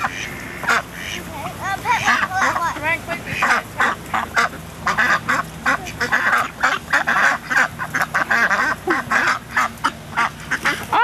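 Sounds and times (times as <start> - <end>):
ducks quacking loudly: 0.0 - 11.0.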